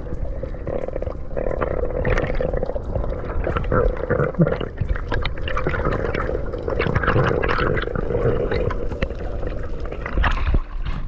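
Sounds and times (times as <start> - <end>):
small crackles and clicks: 0.0 - 11.0
water gurgling and bubbling: 0.0 - 11.0.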